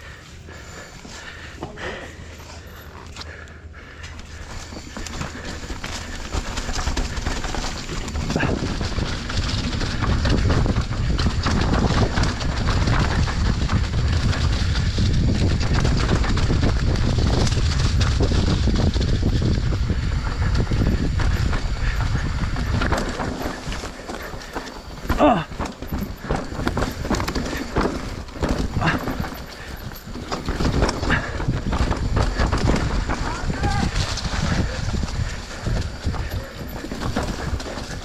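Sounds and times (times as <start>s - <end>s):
rattling over rough ground: 0.0s - 38.0s
wind on microphone: 4.4s - 38.0s.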